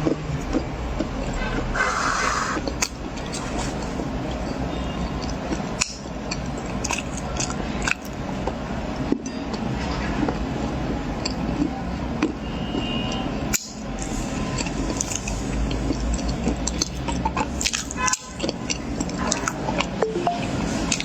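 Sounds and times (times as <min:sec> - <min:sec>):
crunchy chewing of corn: 0:00.0 - 0:10.4, 0:11.1 - 0:19.9.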